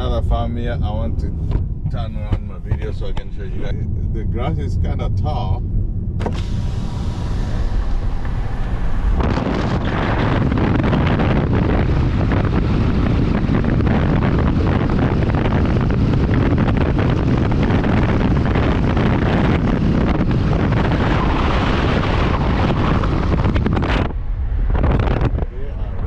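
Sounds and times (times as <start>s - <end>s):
car road noise: 0.0s - 26.0s
wind rushing over microphone: 0.0s - 26.0s.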